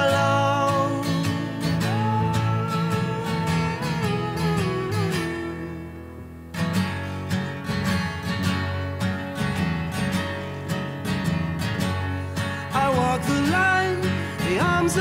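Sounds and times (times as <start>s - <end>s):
acoustic bass guitar: 0.0s - 15.0s
acoustic guitar strumming: 0.0s - 15.0s.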